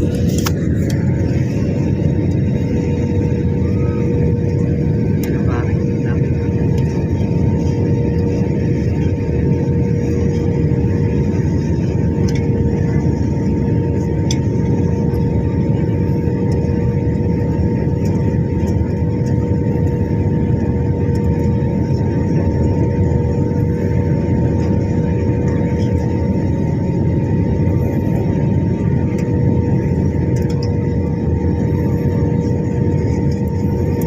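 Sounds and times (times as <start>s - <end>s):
jet engine and airflow rumble: 0.0s - 34.0s
steady hum tone: 0.0s - 34.0s.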